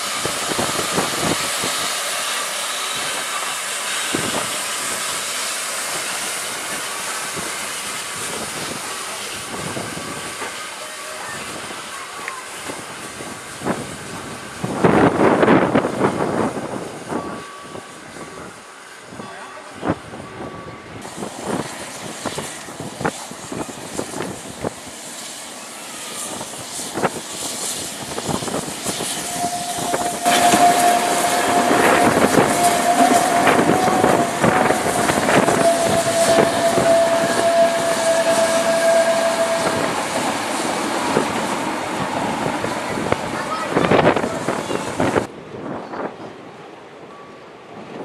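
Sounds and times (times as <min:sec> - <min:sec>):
high squeal from passing train: 0:00.0 - 0:48.0.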